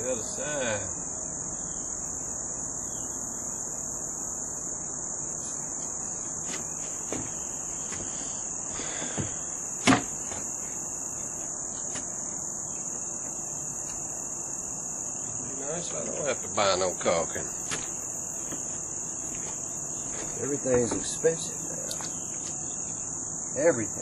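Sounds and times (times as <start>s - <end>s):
insects chorus: 0.0s - 24.0s.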